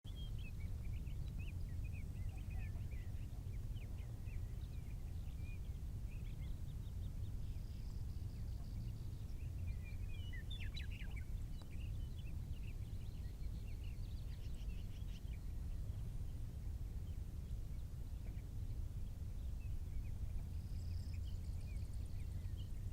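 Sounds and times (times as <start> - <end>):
small birds chirping: 0.0 - 22.9
steady low rumble: 0.1 - 22.9.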